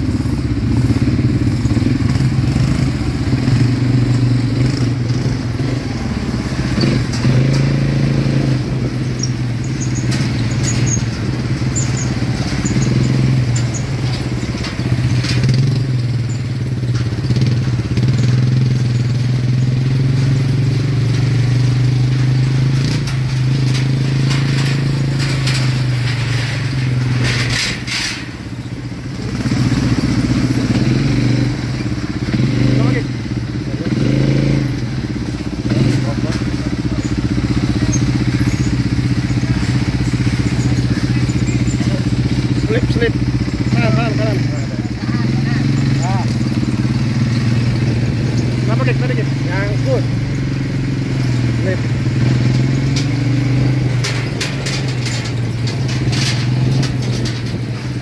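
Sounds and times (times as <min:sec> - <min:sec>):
atv engine running: 0:00.0 - 0:58.0
short knocks and rattles: 0:01.8 - 0:58.0.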